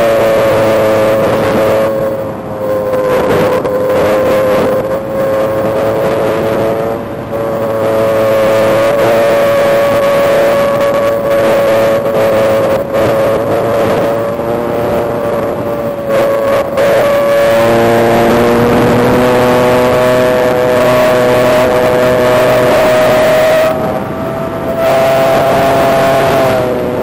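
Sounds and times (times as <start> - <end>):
electric motor and propeller whining: 0.0 - 27.0.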